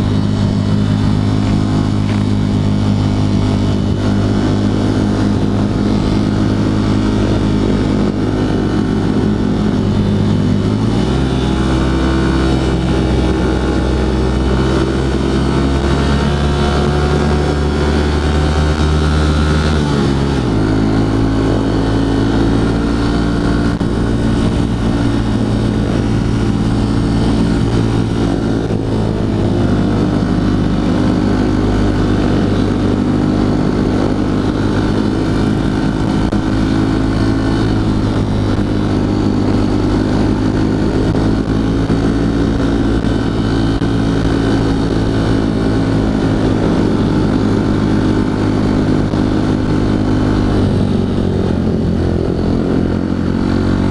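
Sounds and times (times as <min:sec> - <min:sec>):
motorcycle engine running steadily: 0:00.0 - 0:53.9.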